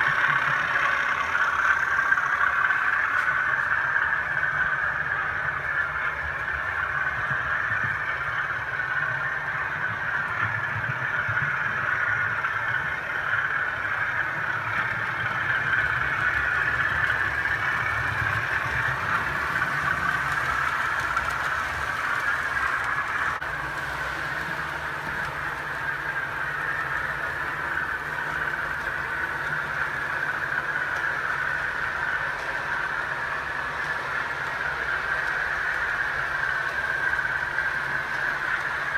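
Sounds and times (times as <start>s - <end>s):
model train motor whirring: 0.0s - 38.9s.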